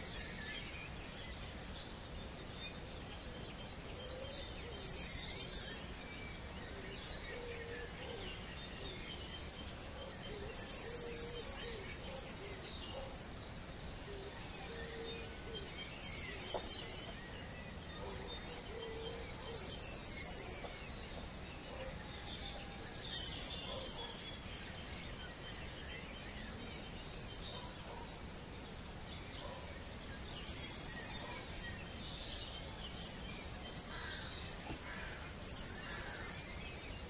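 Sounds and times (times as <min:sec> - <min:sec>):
chorus of birds: 0:00.0 - 0:37.0
songbird singing trill: 0:00.0 - 0:37.0.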